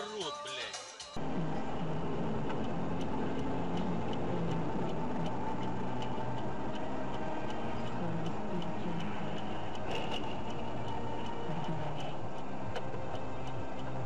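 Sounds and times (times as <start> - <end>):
car road and engine noise: 1.2 - 14.0
light ticking: 1.2 - 14.0.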